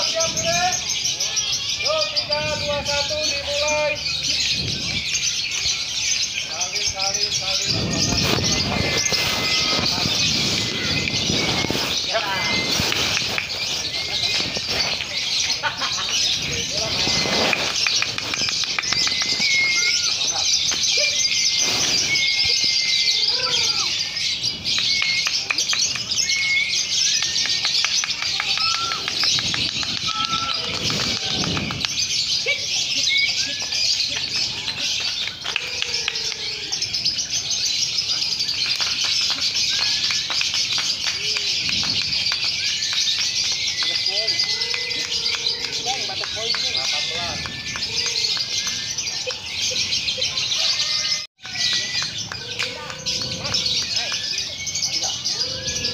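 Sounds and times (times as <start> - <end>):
birds chattering and trilling: 0.0 - 55.9.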